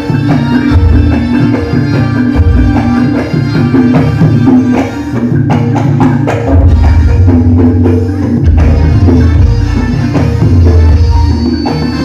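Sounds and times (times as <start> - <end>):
gamelan ensemble playing: 0.0 - 12.0.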